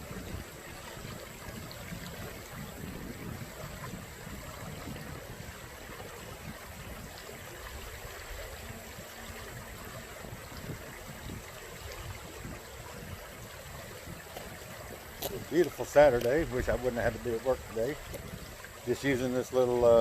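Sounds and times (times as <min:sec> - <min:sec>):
water running in a ditch: 0:00.0 - 0:20.0.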